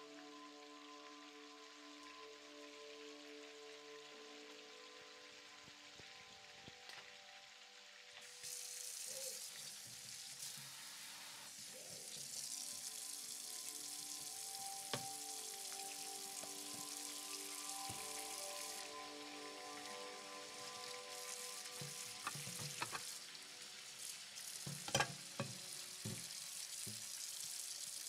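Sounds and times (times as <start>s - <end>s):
food sizzling in frying pan: 0.1s - 28.0s.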